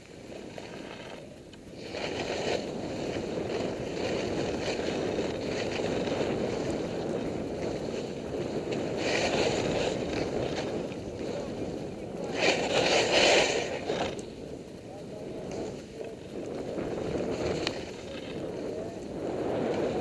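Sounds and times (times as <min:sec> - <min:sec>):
skis scraping over snow: 0:00.0 - 0:20.0
wind rushing over microphone: 0:00.0 - 0:20.0.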